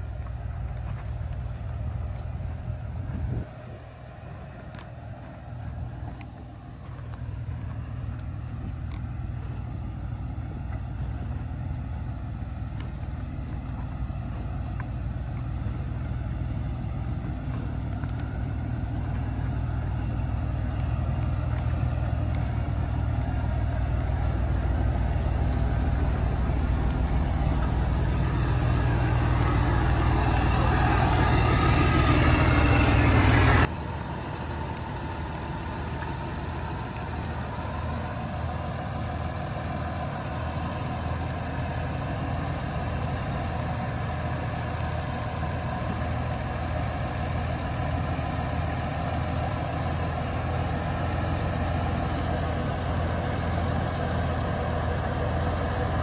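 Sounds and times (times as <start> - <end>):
heavy truck engine droning: 0.0 - 56.0.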